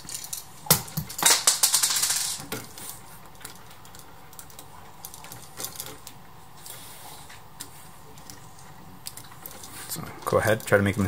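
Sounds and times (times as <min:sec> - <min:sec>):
wires clicking and rattling: 0:00.0 - 0:11.0.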